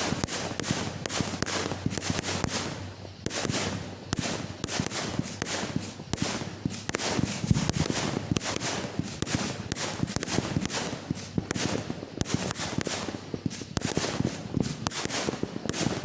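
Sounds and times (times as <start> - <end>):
firework pops and crackles: 0.0 - 16.0.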